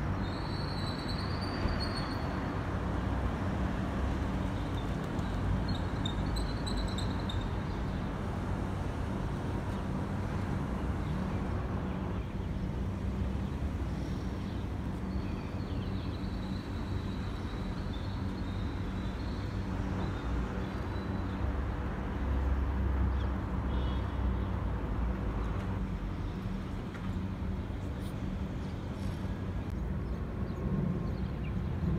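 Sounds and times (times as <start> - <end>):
traffic rumble: 1.5 - 31.9.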